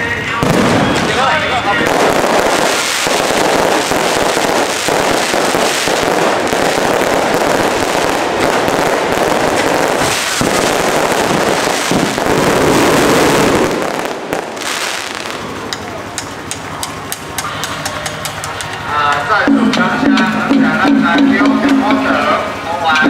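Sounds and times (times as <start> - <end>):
fireworks crackles and bursts: 0.0 - 23.0.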